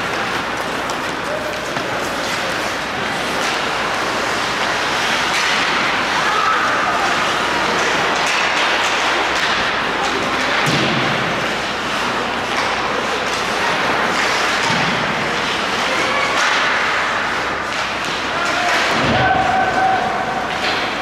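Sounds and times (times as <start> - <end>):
hockey sticks and puck on boards: 0.0 - 21.0
spectators' voices: 0.0 - 21.0.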